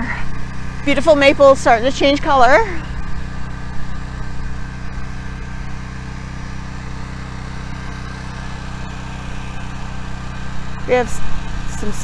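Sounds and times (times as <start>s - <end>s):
generator engine running: 0.0s - 12.0s.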